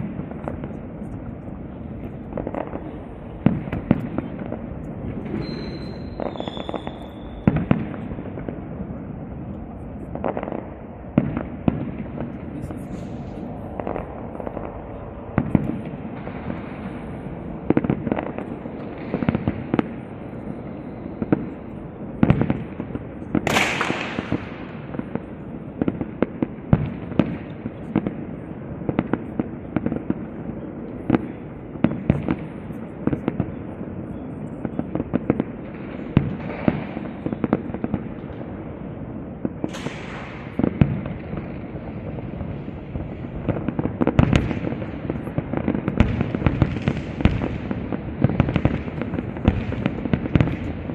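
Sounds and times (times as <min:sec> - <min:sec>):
fireworks bangs and booms: 0:00.0 - 0:50.9.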